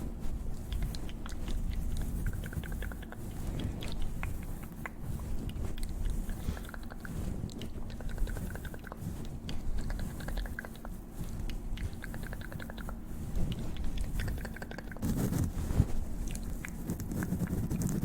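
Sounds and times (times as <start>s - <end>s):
rapid mouth ticking: 0.4s - 18.0s
wet mouth clicks and smacks: 0.6s - 15.0s, 16.2s - 17.2s.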